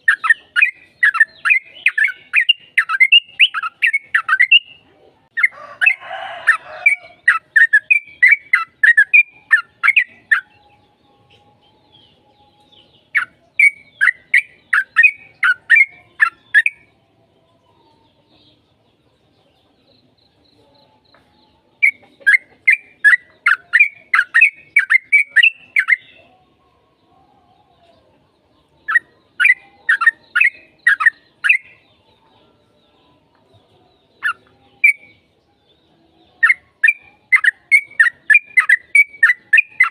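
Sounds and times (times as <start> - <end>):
bird singing rapid chirps: 0.0 - 26.7, 27.6 - 39.9.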